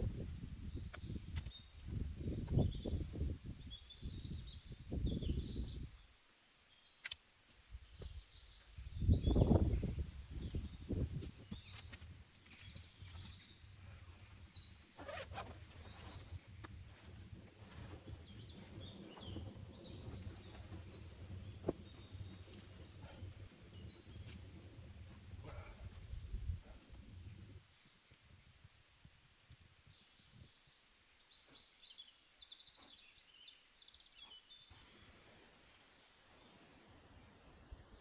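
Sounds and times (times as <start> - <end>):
small birds chirping: 0.5 - 38.0.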